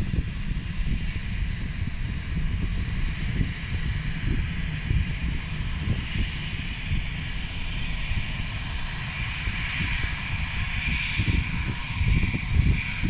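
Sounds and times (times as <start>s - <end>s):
airliner engines whining: 0.0s - 13.0s
gusty low rumble: 0.0s - 13.0s.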